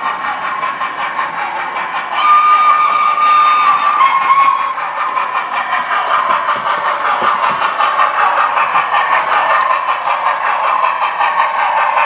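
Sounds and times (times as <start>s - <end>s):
steam locomotive chuffing from speaker: 0.0s - 12.0s.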